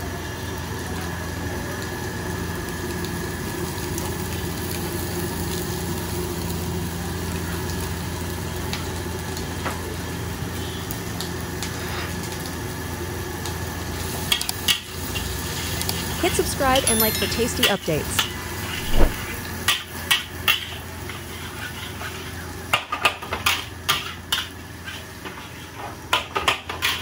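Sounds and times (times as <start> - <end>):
faint frying sizzle: 0.0 - 27.0
gas burner roaring: 0.0 - 27.0.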